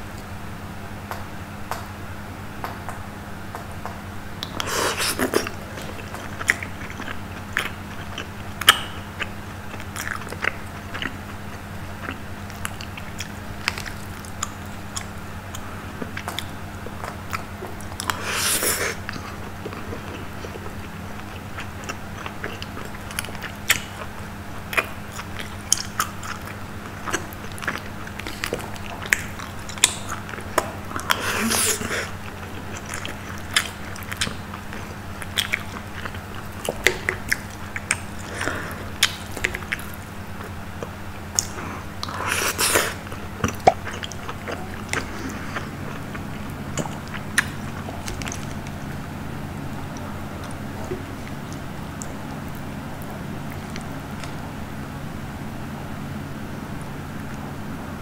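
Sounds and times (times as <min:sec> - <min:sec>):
steady low hum: 0:00.0 - 0:58.0
close chewing and biting: 0:04.4 - 0:54.4.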